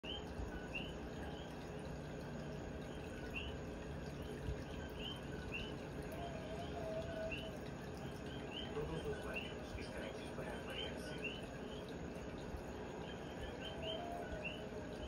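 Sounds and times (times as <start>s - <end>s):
frogs chirping: 0.0s - 15.0s
low background noise: 0.0s - 15.0s.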